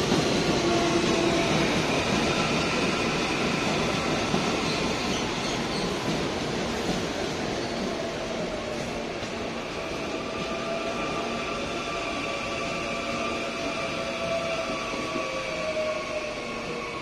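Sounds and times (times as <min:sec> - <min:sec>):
electric train rolling past: 0:00.0 - 0:17.0.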